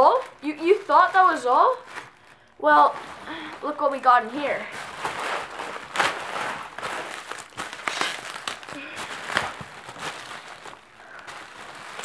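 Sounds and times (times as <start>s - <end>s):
bubble wrap and paper crinkling: 0.0s - 12.0s.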